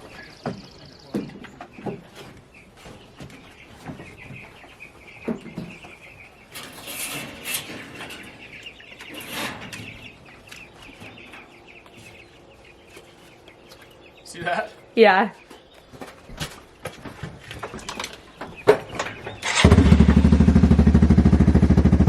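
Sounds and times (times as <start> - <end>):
young chickens peeping: 0.0 - 22.0.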